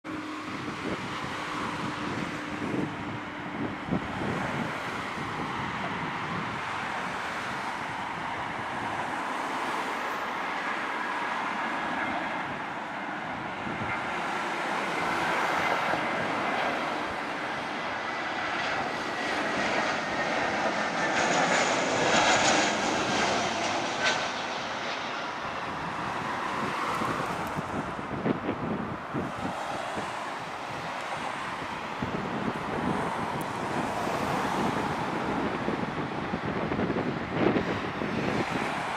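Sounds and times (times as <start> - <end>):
jet engines whining: 0.1 - 38.9.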